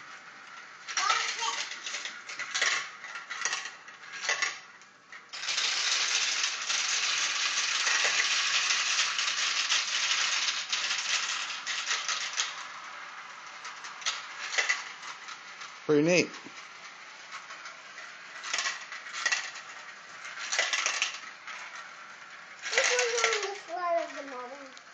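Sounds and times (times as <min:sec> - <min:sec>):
marbles rattling down plastic run: 0:00.4 - 0:04.7, 0:05.3 - 0:24.9.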